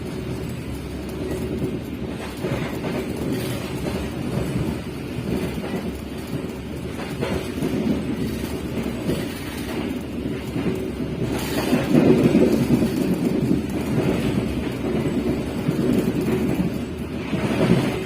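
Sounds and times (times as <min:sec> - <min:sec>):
moving train wheel-on-rail rumble: 0:00.0 - 0:18.0.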